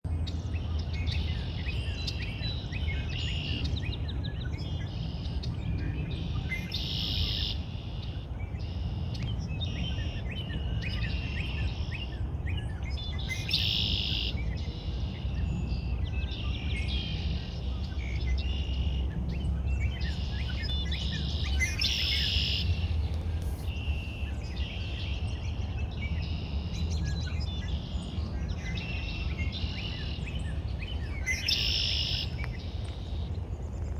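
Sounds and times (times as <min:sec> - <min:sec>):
songbirds chirping: 0:00.1 - 0:33.9.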